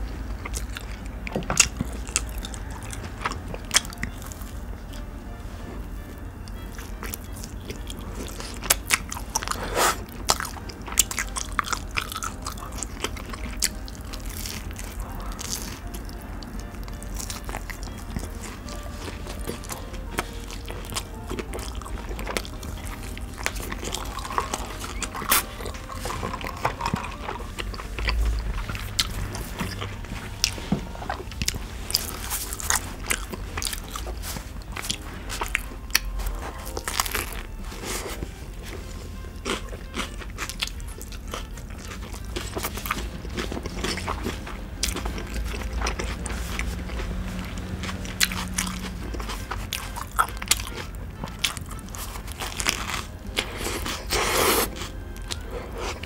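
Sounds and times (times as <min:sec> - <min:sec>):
biting and chewing a burger: 0:00.0 - 0:56.0.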